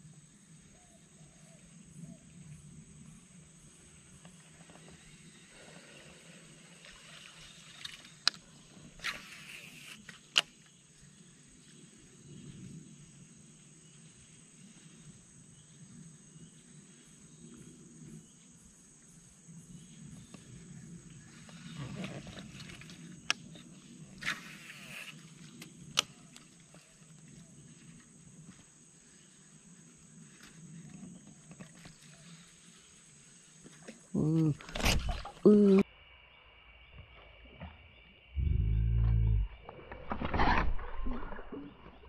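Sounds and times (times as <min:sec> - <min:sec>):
high insect drone: 0:00.0 - 0:40.6.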